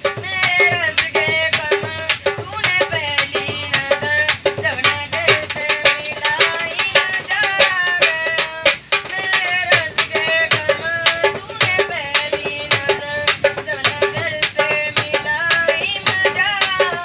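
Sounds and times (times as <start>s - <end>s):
hand percussion beat: 0.0s - 17.0s
person singing folk song: 0.0s - 17.0s.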